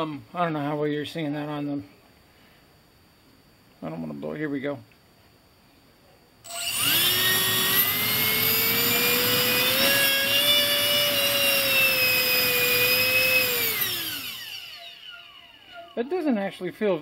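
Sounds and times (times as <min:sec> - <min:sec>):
electric fan high whine: 0:00.0 - 0:17.0.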